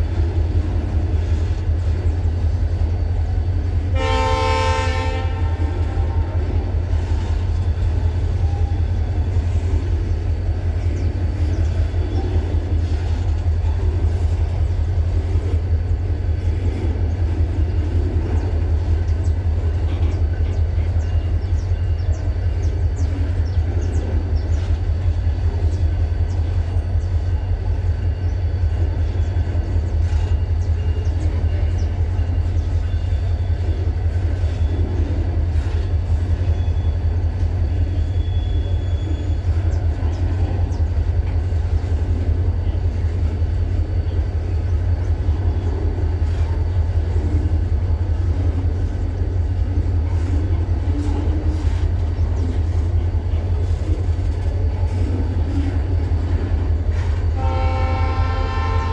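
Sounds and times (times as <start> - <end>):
diesel locomotive droning: 0.0 - 58.9.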